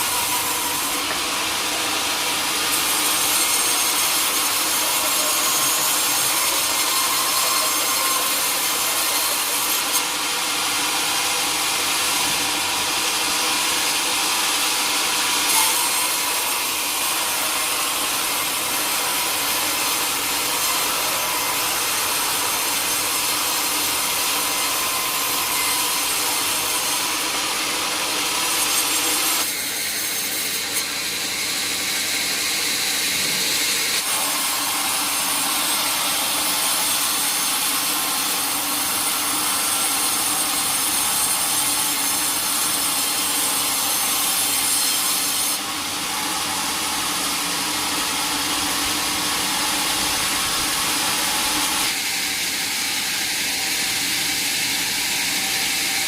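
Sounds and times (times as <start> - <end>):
saw blade cutting log: 0.0 - 56.0.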